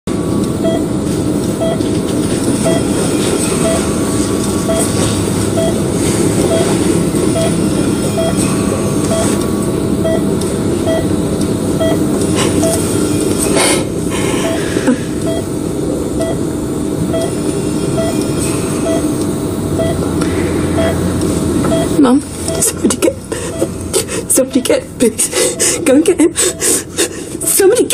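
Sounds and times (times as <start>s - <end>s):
low rumbling hum: 0.1s - 27.9s
patient monitor beeping: 0.4s - 27.9s.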